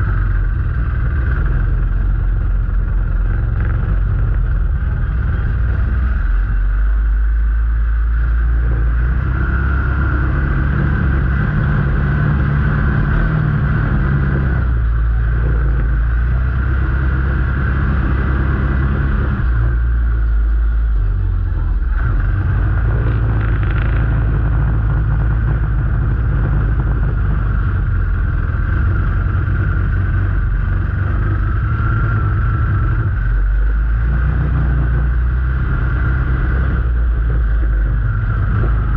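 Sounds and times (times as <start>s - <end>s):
vehicle engine rumbling: 0.0s - 38.9s.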